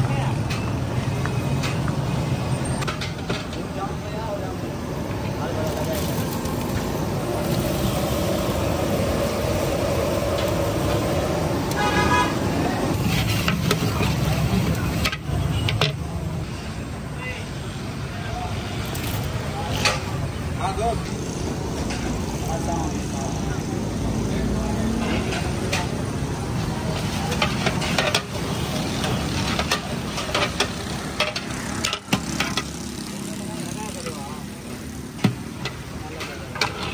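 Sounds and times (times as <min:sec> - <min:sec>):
street traffic: 0:00.0 - 0:36.9.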